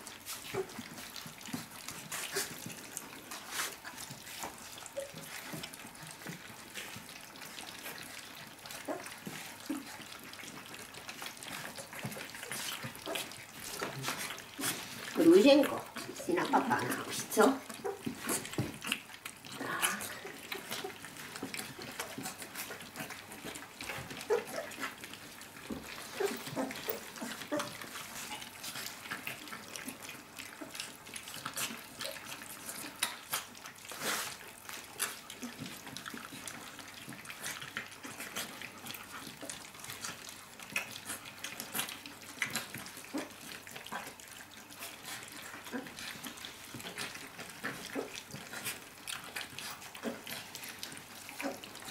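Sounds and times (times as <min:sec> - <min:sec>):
puppies lapping food: 0:00.0 - 0:51.9.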